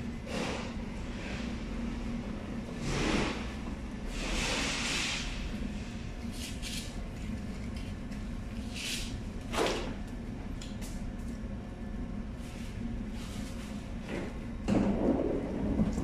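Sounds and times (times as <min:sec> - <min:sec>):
low machinery hum: 0:00.0 - 0:16.0.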